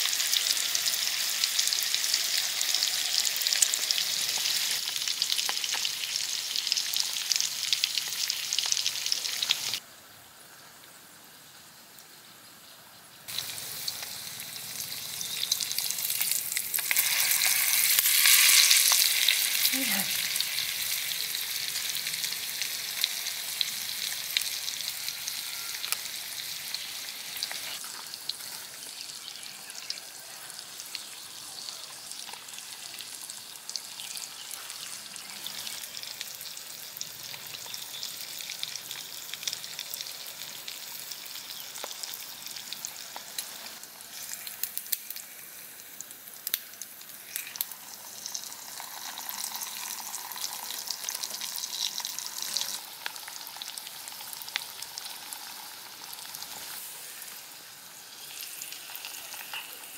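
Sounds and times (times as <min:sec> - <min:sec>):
hot oil sizzling and bubbling: 0:00.0 - 0:09.8, 0:13.1 - 0:59.9.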